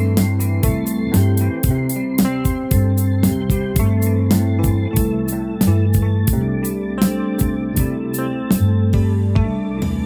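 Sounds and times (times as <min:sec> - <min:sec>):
steady beat: 0:00.0 - 0:10.0
sustained keyboard chords: 0:00.0 - 0:10.0.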